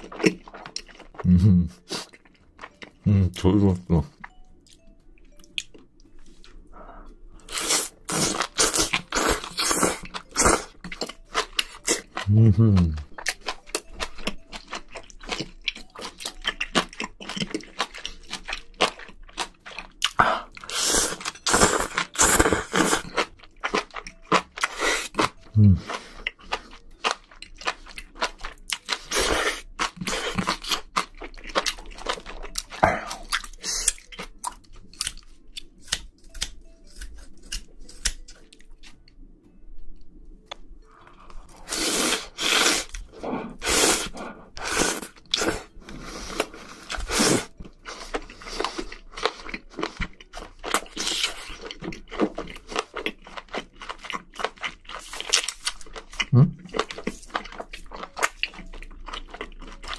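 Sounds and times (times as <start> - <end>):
crunchy wet chewing: 0.0 - 3.0, 7.4 - 39.0, 41.3 - 59.9.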